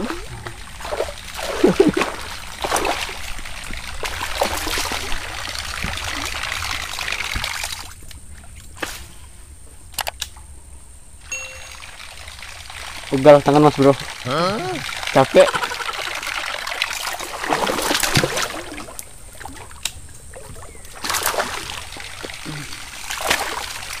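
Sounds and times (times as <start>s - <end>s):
water churning and splashing: 0.0s - 9.1s, 11.4s - 24.0s.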